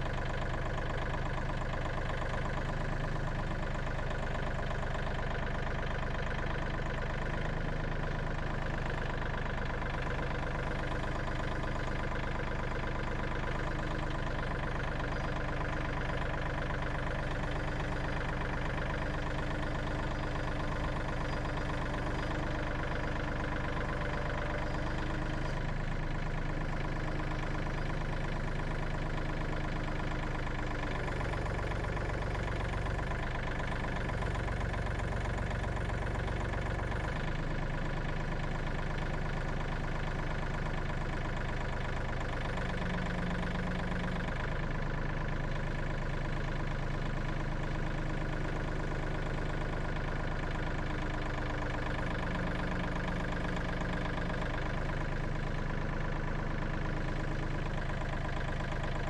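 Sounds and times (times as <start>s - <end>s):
engine idling hum: 0.0s - 59.0s.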